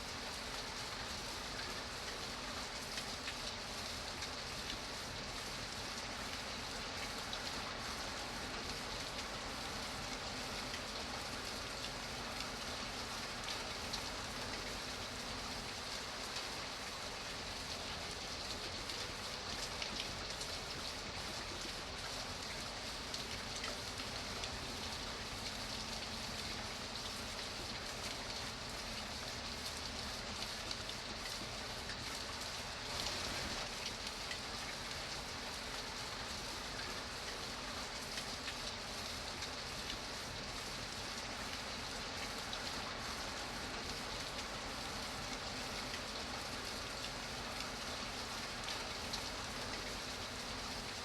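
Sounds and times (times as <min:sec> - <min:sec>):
rain pattering on a surface: 0:00.0 - 0:51.0.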